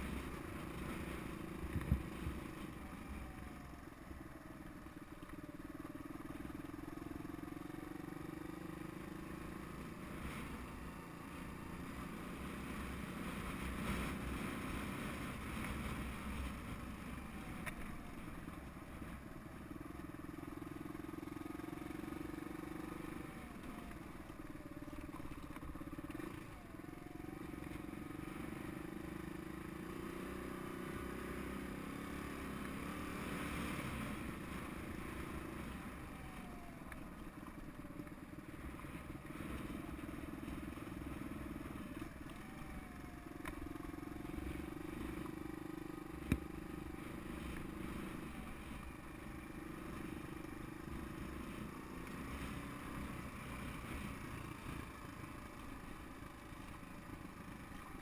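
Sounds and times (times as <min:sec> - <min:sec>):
single-cylinder engine running: 0:00.0 - 0:58.0.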